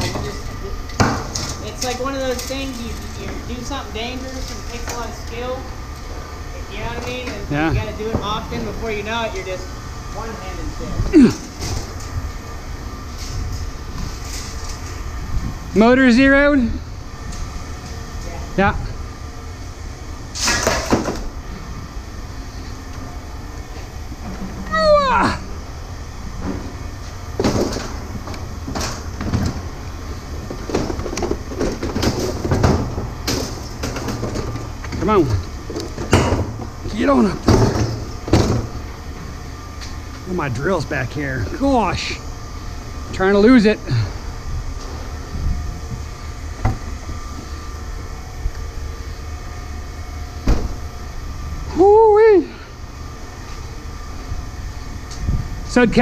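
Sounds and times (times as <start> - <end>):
low mechanical rumble: 0.0 - 56.0.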